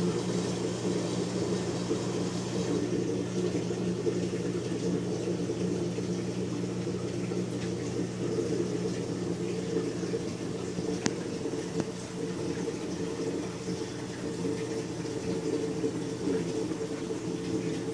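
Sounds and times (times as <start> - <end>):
bubbling water: 0.0 - 17.9
pump hum: 0.0 - 17.9.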